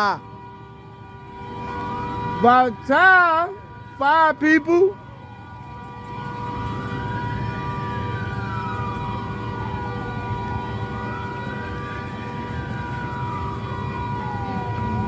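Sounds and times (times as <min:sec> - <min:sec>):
siren wailing up and down: 0:00.0 - 0:15.0.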